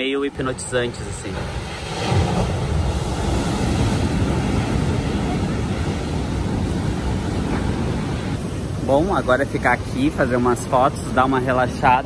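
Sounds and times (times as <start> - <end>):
ocean waves breaking on beach: 0.2 - 12.0.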